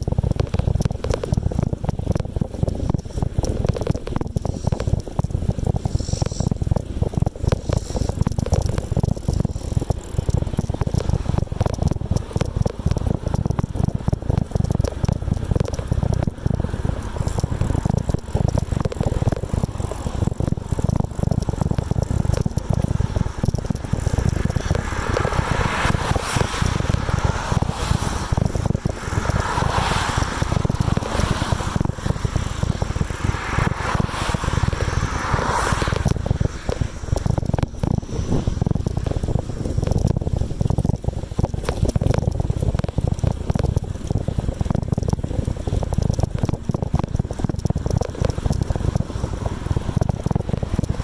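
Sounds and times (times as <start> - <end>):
bicycle rumbling and rattling: 0.0 - 51.0
wind buffeting microphone: 0.0 - 51.0.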